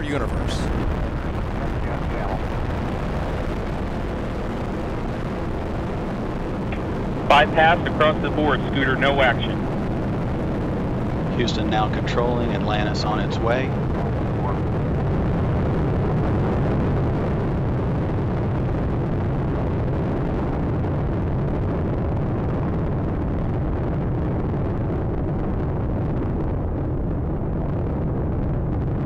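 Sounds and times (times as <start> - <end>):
deep rumble of rocket exhaust: 0.0 - 29.0.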